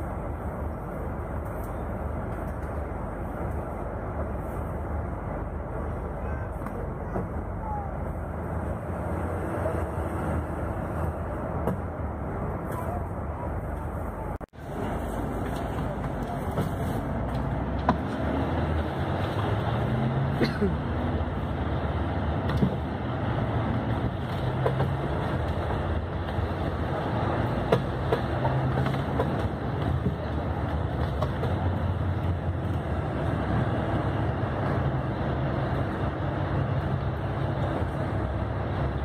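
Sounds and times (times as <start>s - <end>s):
coach engine hum: 0.0s - 39.0s
road noise: 0.0s - 39.0s.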